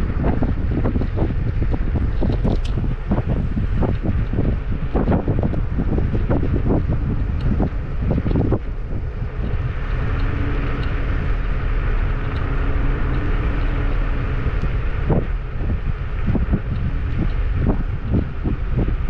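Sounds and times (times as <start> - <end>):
faint steady hum: 0.0 - 19.0
wind rushing over microphone: 0.0 - 19.0.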